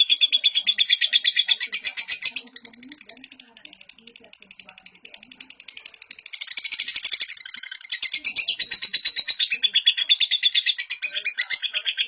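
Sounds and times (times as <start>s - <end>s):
lovebird chattering trill: 0.0s - 12.0s.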